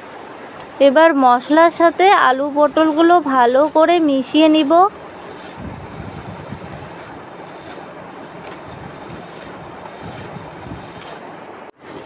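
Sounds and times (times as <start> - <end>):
spatula stirring: 2.3 - 12.0.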